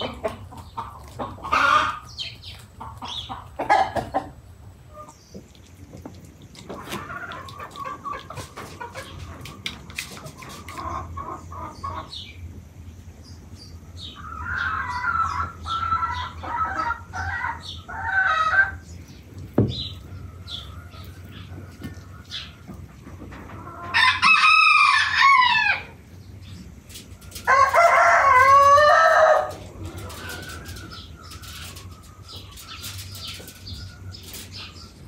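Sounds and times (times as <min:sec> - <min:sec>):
hens clucking: 0:00.0 - 0:35.0.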